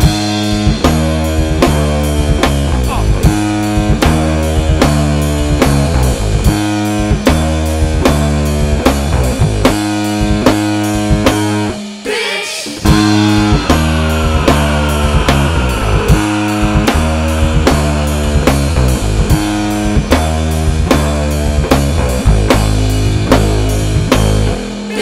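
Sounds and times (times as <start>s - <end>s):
bass guitar: 0.0s - 12.0s, 12.7s - 25.0s
drum kit: 0.0s - 25.0s.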